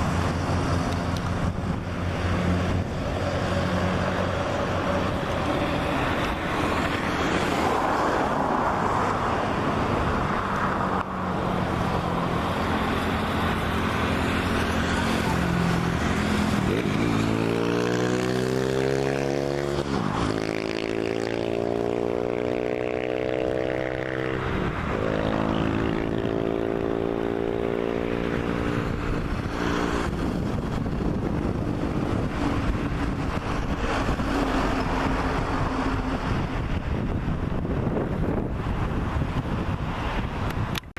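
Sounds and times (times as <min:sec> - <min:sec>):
jet engines passing: 0:00.0 - 0:40.9.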